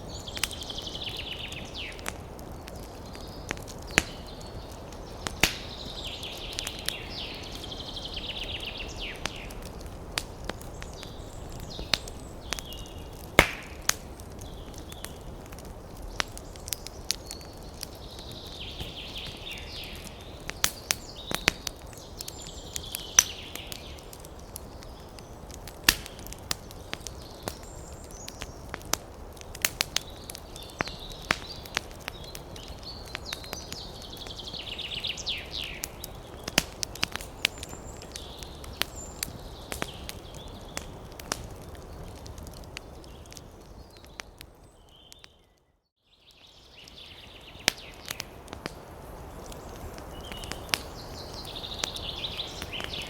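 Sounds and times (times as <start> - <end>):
wood fire crackling and popping: 0.0 - 45.7, 46.3 - 53.0
hissing burning logs: 0.0 - 53.0.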